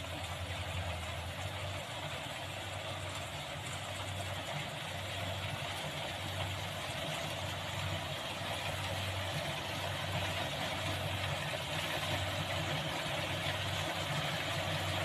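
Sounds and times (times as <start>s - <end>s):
harvesting machine engine running: 0.0s - 15.0s.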